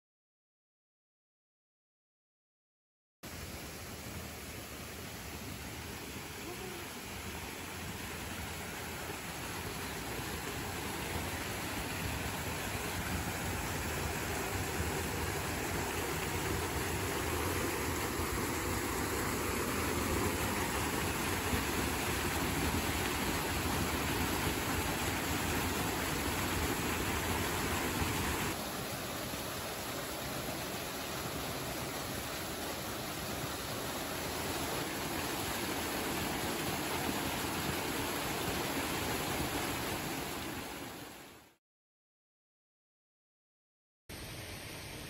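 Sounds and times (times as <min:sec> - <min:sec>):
small waterfall splashing into pool: 0:03.3 - 0:41.6.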